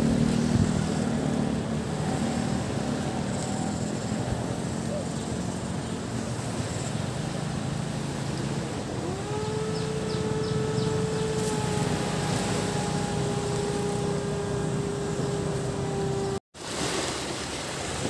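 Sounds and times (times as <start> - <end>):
cicadas droning: 0.0 - 16.4
motorboat engine running: 0.0 - 17.9
surf washing: 0.0 - 18.0.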